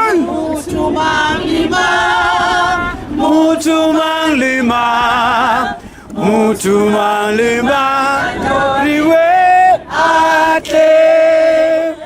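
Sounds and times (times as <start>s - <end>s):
choir singing unaccompanied: 0.0s - 12.0s.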